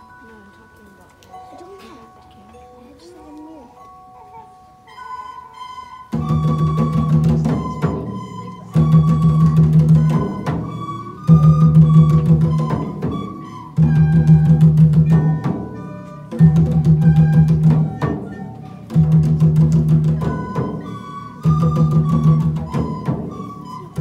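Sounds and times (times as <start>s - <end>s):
recorders playing: 0.0s - 24.0s
hand drums playing: 3.9s - 24.0s.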